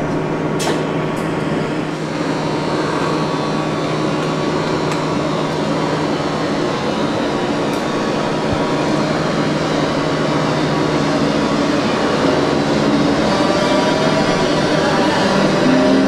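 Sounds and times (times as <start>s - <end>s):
train running noise: 0.0s - 16.0s
electric motor whine: 2.4s - 16.0s.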